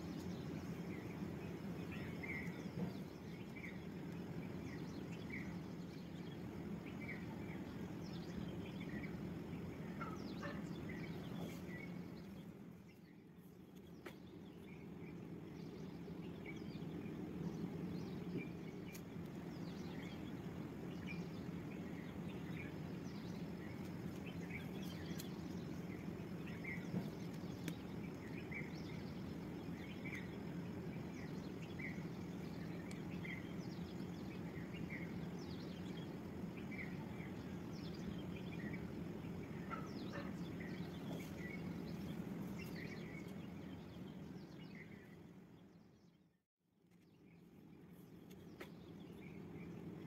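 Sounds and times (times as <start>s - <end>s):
low background rumble: 0.0s - 46.2s
small birds chirping: 0.0s - 50.0s.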